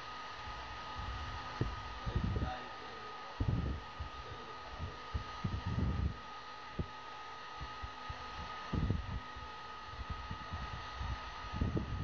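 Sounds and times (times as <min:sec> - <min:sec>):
heat gun air rush and whine: 0:00.0 - 0:12.0.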